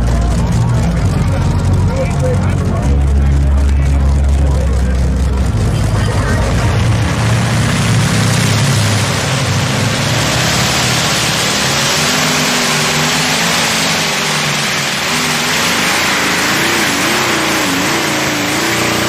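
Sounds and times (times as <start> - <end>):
tractor engine running under load: 0.0 - 19.0.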